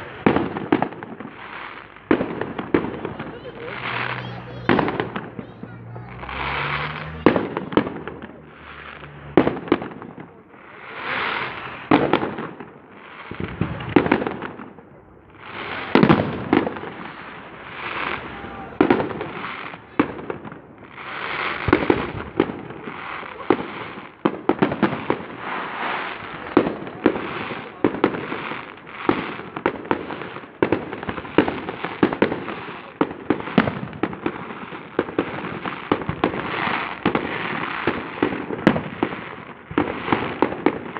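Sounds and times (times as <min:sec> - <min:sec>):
crackling firework hiss: 0:00.0 - 0:40.9
firework bangs: 0:00.0 - 0:40.9.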